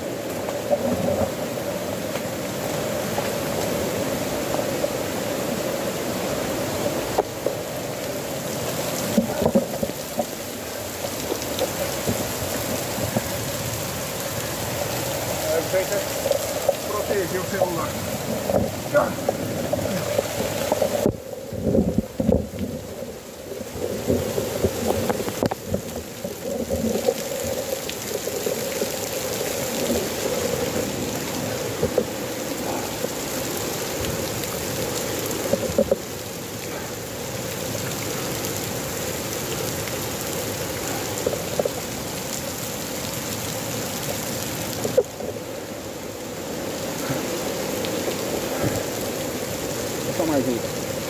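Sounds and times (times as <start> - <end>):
heavy rain: 0.0 - 51.0.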